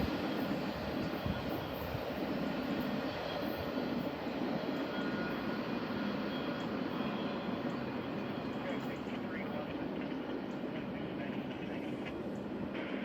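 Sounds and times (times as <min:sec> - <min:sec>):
freight train wheels rumbling on rail: 0:00.0 - 0:13.0.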